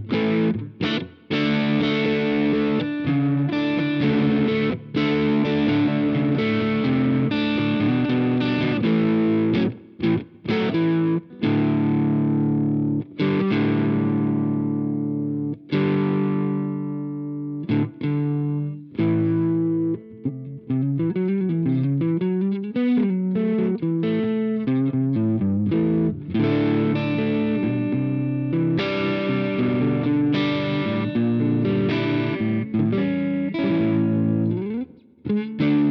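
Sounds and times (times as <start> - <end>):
overdriven electric guitar: 0.0 - 35.9.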